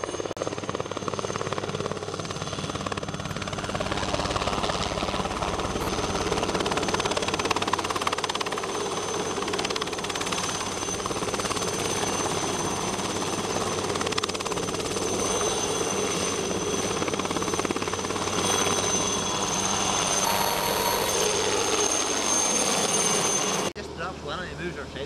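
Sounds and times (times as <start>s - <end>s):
constant high whine: 0.1s - 24.9s
helicopter rotor chop: 0.5s - 15.1s, 15.7s - 23.7s.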